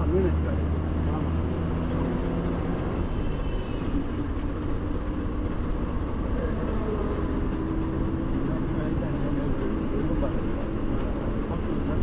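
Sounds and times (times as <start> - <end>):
bus engine hum and road rumble: 0.0 - 12.0.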